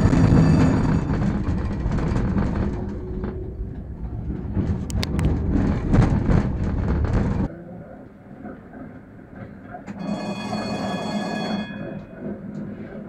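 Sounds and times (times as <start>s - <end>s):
tram wheels rumbling on rails: 0.0s - 7.6s, 8.3s - 13.0s.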